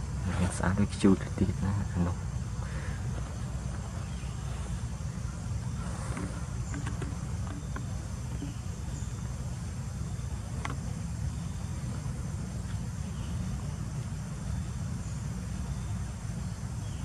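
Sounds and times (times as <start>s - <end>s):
faint insect buzzing: 0.0s - 17.0s.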